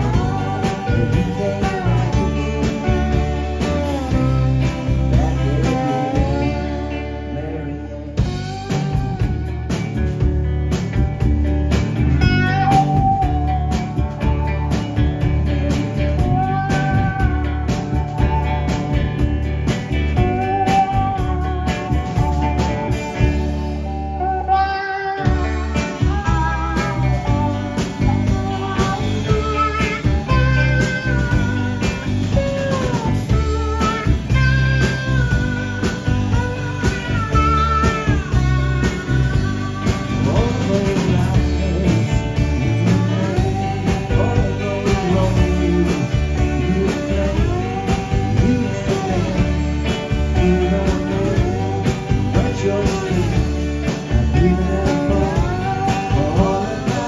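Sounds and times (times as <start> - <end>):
steady drum beat: 0.0 - 7.4, 8.0 - 24.2, 25.2 - 57.0
bass guitar: 0.0 - 57.0
electric guitar long bent notes: 0.0 - 57.0.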